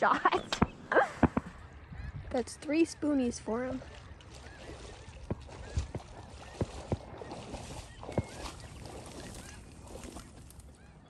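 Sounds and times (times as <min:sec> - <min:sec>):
distant waterfowl calling: 0:00.0 - 0:11.0.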